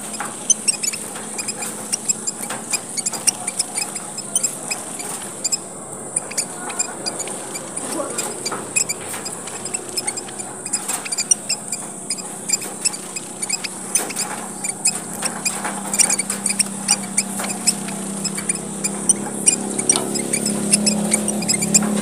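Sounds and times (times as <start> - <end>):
finches chirping: 0.0 - 22.0.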